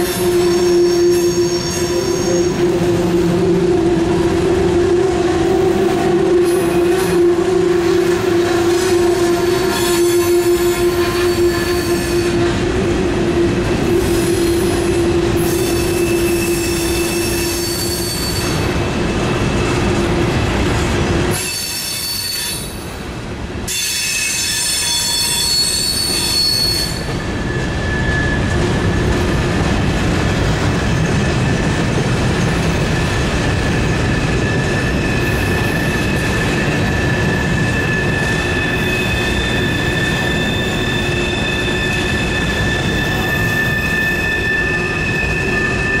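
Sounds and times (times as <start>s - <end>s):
train wheels squealing on rail: 0.0s - 20.2s, 20.8s - 23.0s, 23.7s - 46.0s
rumble of rolling freight cars: 0.0s - 46.0s.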